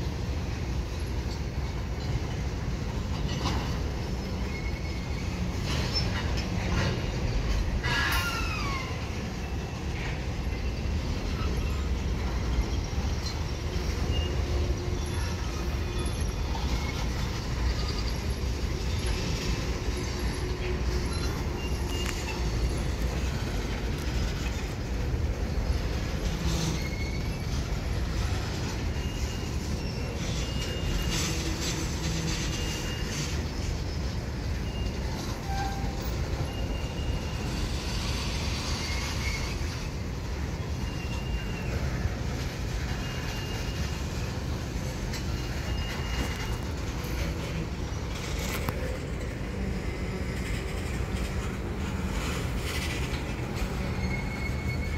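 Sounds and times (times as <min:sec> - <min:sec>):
train wheels rumbling: 0:00.0 - 0:54.9
high-pitched wheel squeals: 0:02.0 - 0:54.9.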